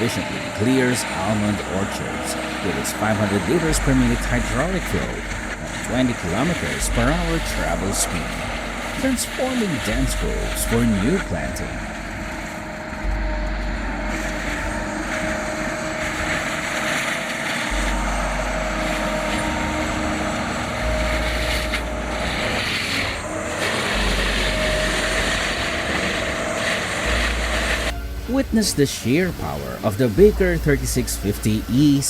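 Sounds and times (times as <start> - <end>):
forestry mulcher running: 0.0 - 32.0.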